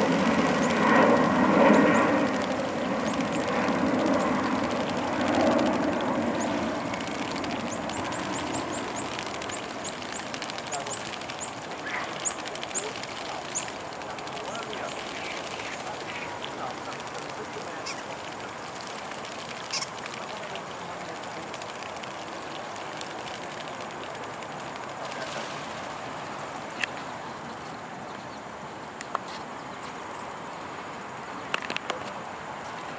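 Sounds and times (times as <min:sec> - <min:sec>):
birds splashing in water: 0:00.0 - 0:27.4.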